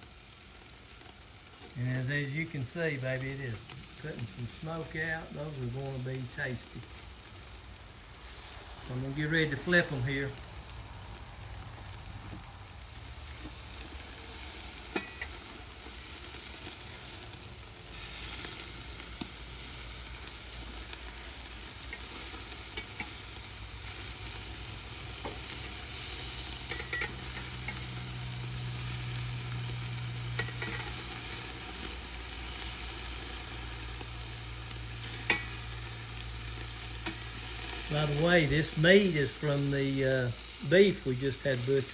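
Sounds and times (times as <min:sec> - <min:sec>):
patties sizzling on a grill: 0:00.0 - 0:41.9.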